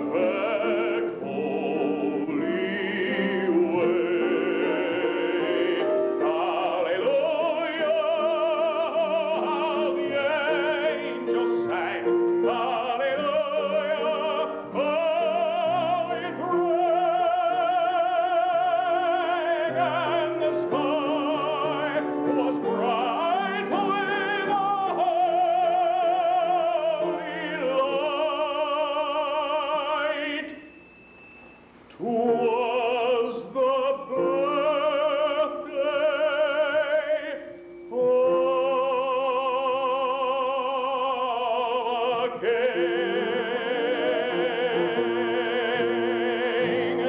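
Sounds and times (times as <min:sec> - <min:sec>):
piano accompaniment: 0:00.0 - 0:31.4, 0:32.0 - 0:40.5, 0:41.6 - 0:47.0
tenor singing with vibrato: 0:00.0 - 0:47.0.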